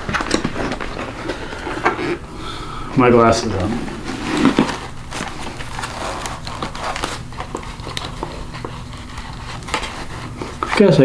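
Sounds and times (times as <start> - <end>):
helmet rustling and clicking: 0.0 - 2.4, 3.0 - 11.0.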